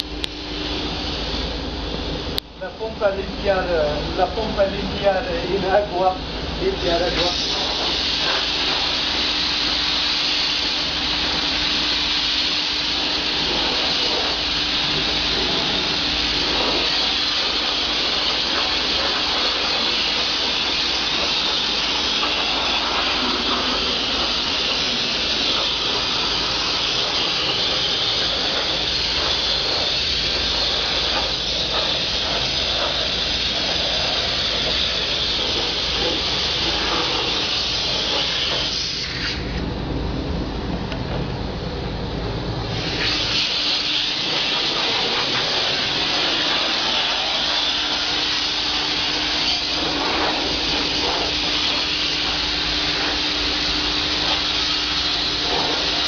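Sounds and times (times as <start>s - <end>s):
paint spray gun hissing: 0.0s - 39.6s, 42.6s - 56.0s.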